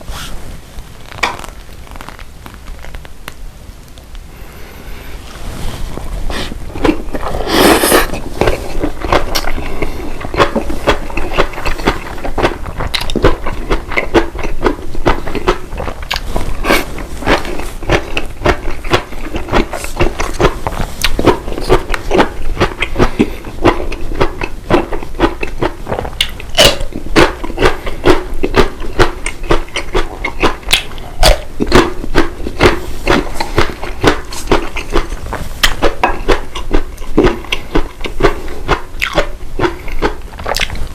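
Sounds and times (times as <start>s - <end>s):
person chewing food: 1.0s - 3.4s, 4.1s - 40.9s.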